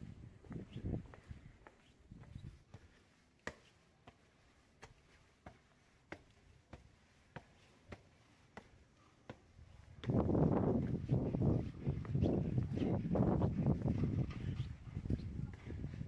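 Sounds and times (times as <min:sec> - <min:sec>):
footsteps on hard ground: 0:00.0 - 0:03.8, 0:04.8 - 0:16.0.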